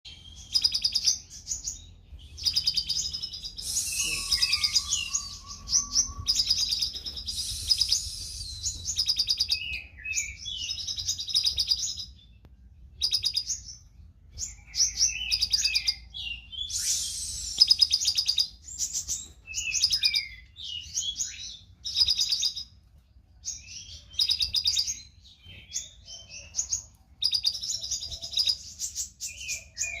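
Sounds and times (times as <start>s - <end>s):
bird singing rapid chattering: 0.1s - 22.7s, 23.5s - 30.0s.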